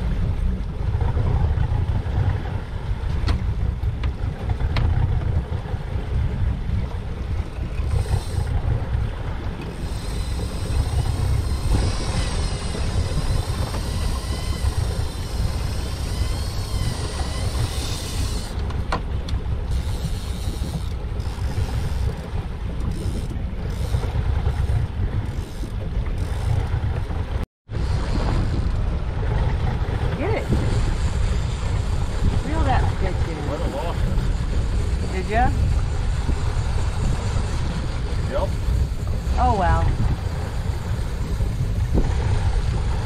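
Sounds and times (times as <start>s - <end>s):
boat engine running: 0.0s - 43.0s
wind rumble on microphone: 0.0s - 43.0s.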